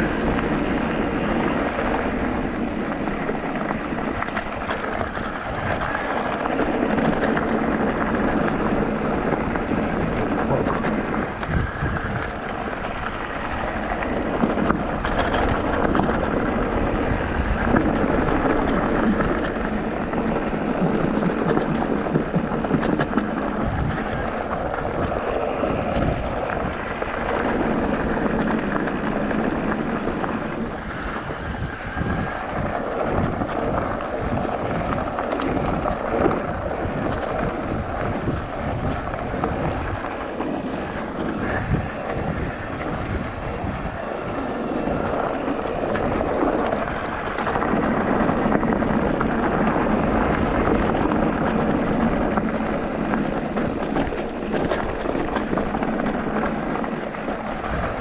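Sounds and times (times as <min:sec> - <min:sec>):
motorcycle engine running: 0:00.0 - 0:31.7, 0:32.4 - 0:58.0
wind buffeting microphone: 0:00.0 - 0:58.0.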